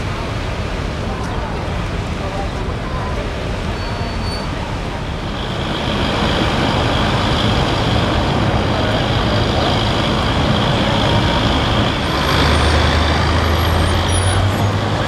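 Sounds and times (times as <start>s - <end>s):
heavy vehicle engine hum: 0.0s - 15.0s
passing vehicles rushing: 0.0s - 15.0s.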